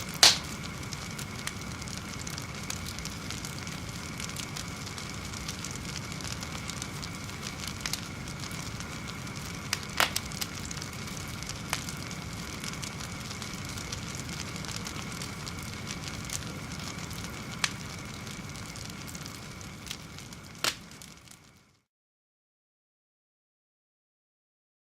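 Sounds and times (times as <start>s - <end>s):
fire crackles and pops: 0.0s - 21.9s
fire hissing and rumbling: 0.0s - 21.9s.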